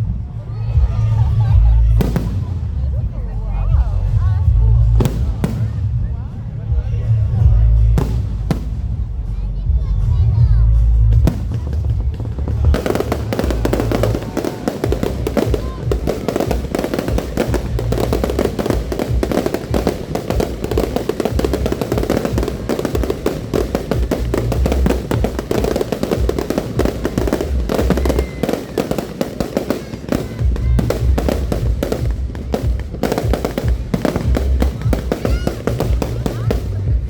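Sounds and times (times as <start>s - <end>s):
low rumbling: 0.0s - 37.0s
fireworks crackling and popping: 0.8s - 9.2s, 11.1s - 37.0s.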